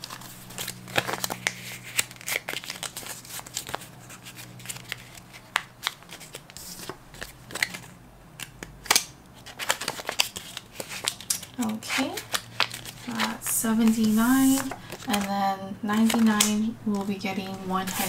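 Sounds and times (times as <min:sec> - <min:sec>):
banknotes rustling and snapping: 0:00.0 - 0:18.0.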